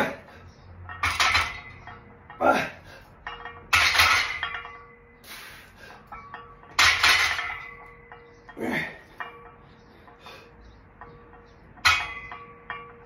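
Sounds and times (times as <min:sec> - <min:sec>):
weight plates clanking: 0:00.0 - 0:13.0
plates and bar rattling: 0:00.5 - 0:05.2, 0:06.0 - 0:13.0.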